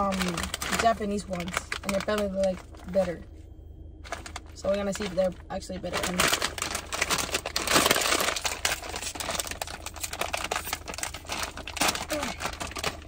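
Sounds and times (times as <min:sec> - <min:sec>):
plastic snack bag crinkling: 0:00.0 - 0:03.2, 0:04.0 - 0:13.0.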